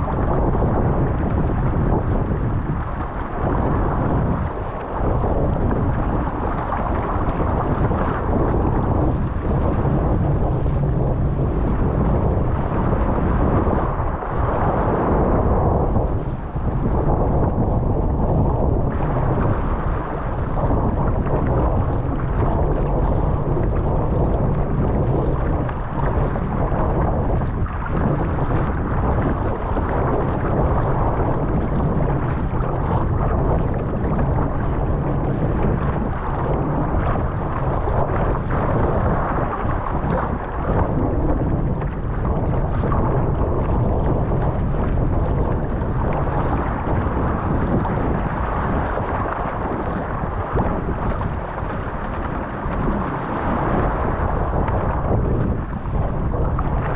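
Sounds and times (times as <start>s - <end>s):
rushing water and waves: 0.0s - 56.9s
wind buffeting microphone: 0.0s - 56.9s.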